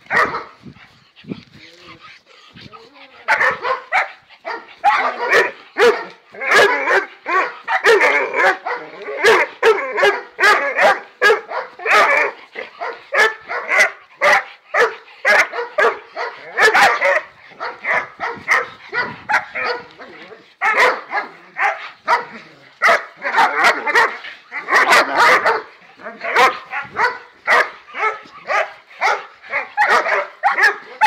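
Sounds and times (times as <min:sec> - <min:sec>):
dogs barking: 0:00.0 - 0:00.6, 0:02.8 - 0:31.0.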